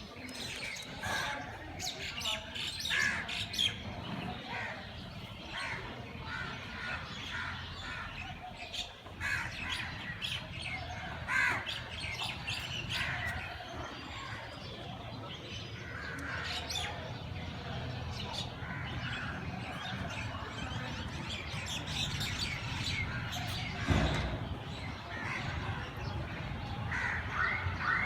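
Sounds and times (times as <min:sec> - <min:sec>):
birds calling: 0:00.0 - 0:28.0.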